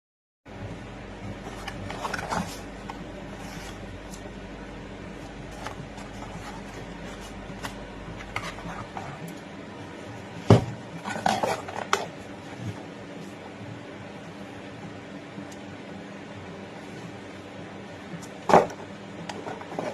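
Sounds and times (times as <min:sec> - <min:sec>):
steady background hum: 0:00.5 - 0:19.9.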